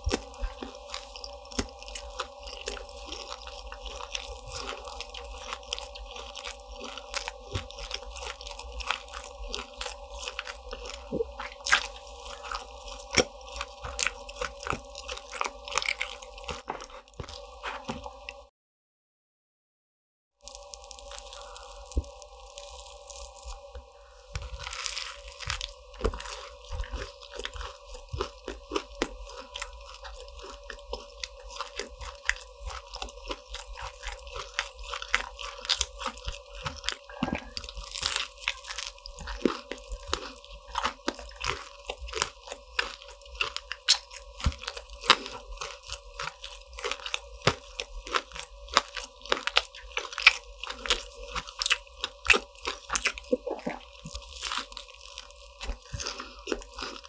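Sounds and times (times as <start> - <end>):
crunching and chewing pastry: 0.0 - 18.5, 20.4 - 57.0.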